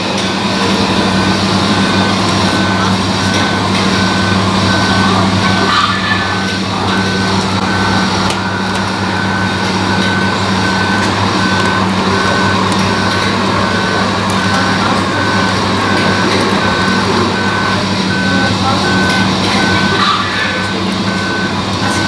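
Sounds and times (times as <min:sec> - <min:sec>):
low engine-like hum: 0:00.0 - 0:22.0
reversing alarm beeping: 0:00.0 - 0:22.0.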